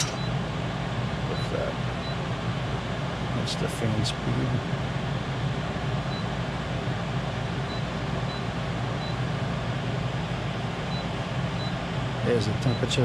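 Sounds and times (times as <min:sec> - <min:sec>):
air conditioner airflow whoosh: 0:00.0 - 0:13.0.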